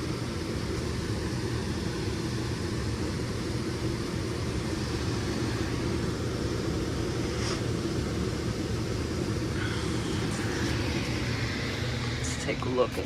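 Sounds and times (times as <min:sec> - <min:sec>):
blower motor rush of air: 0:00.0 - 0:13.0
low motor hum: 0:00.0 - 0:13.0.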